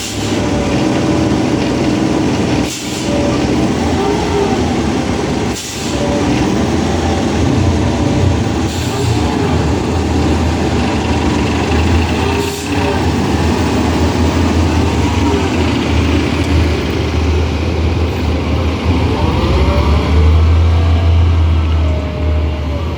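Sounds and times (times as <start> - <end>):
bus engine drone and whine: 0.0 - 22.9.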